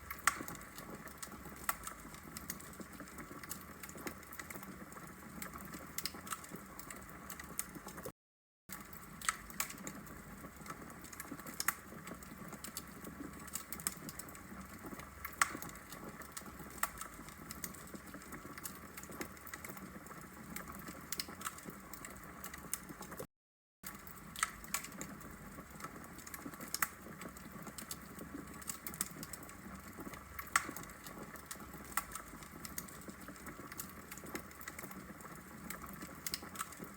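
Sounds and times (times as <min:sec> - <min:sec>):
wood fire crackling: 0:00.0 - 0:08.1, 0:08.7 - 0:23.2, 0:23.9 - 0:36.9.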